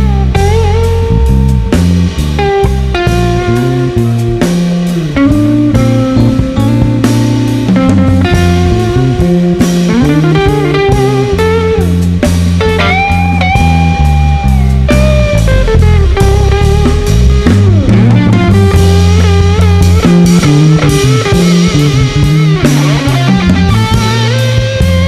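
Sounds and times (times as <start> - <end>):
jazz blues rock trio playing: 0.0 - 25.0
lead guitar with bent notes: 0.0 - 25.0.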